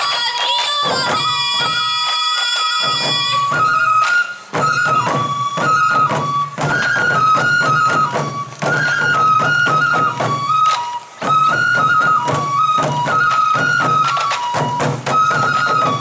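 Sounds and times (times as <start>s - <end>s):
bamboo flute melody: 0.0s - 16.0s
taiko drums struck with sticks: 2.8s - 16.0s.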